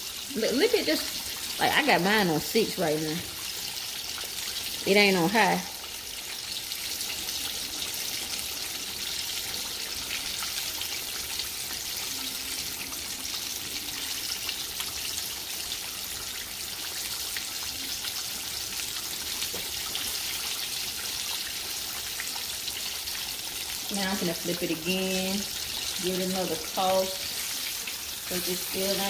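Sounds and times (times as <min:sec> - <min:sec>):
fish deep-frying in oil: 0:00.0 - 0:29.0.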